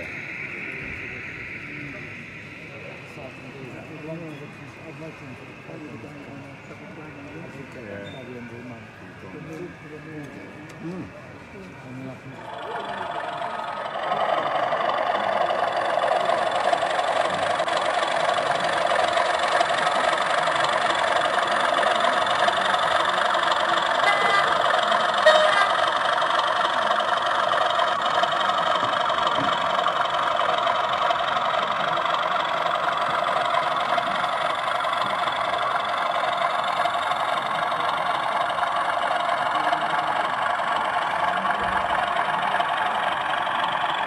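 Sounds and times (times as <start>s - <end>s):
diesel engine sound through small speaker: 0.0s - 44.0s.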